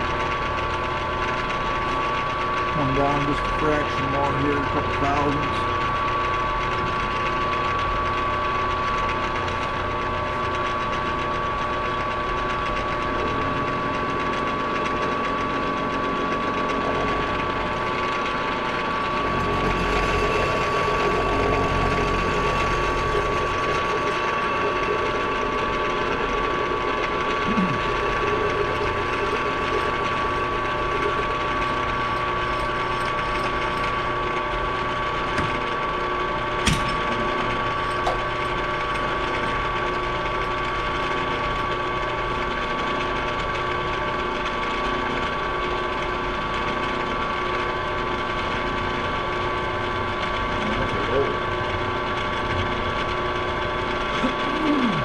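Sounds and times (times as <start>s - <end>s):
milling machine whining and clattering: 0.0s - 55.0s.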